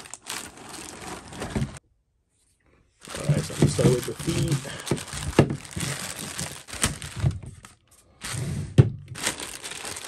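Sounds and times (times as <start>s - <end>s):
plastic bag crinkling: 0.0s - 1.8s, 3.0s - 8.5s, 9.1s - 10.0s.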